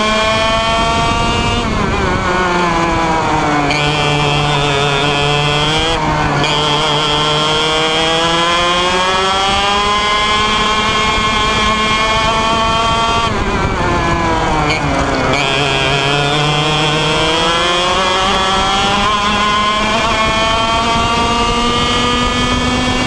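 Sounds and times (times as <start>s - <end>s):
kart engine at racing speed: 0.0s - 23.0s.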